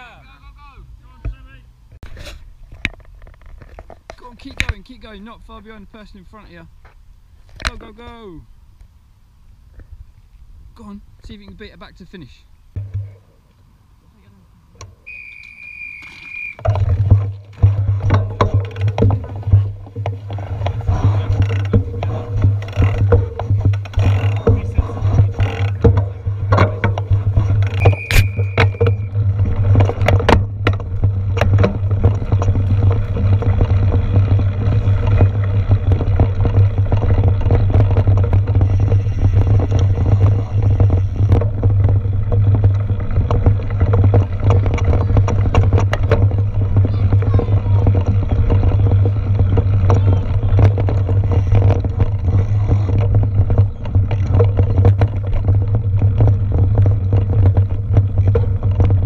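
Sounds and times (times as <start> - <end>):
wind and vibration rumble: 0.4 - 59.0
bike rattling over bumps: 1.3 - 8.4, 15.1 - 59.0.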